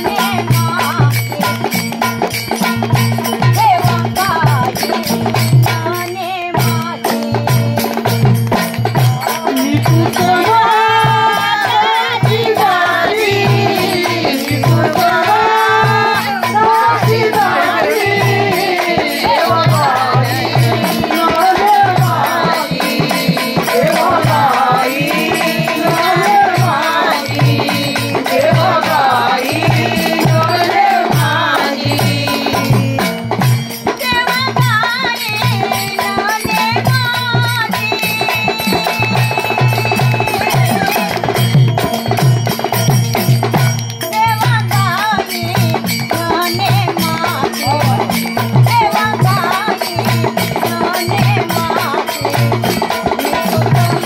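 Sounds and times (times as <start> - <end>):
woman singing: 0.0 - 1.9, 3.2 - 8.4, 9.2 - 41.4, 44.1 - 54.0
steady drum beat: 0.0 - 54.0.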